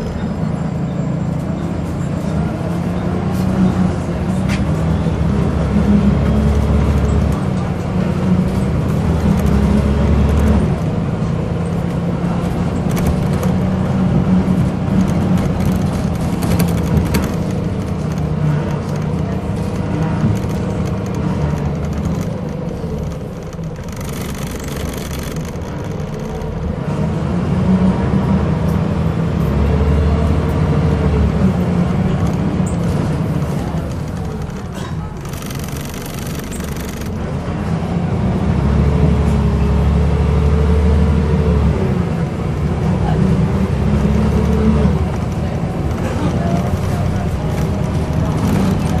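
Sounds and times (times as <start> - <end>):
bus diesel engine under load: 0.0 - 49.0.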